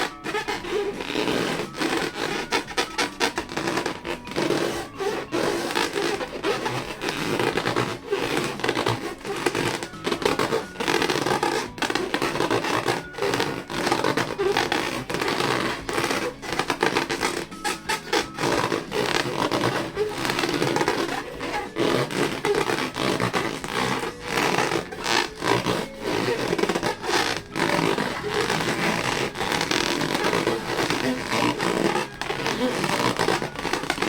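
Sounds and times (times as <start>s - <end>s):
rubber balloons rubbed and squeezed: 0.0s - 34.0s.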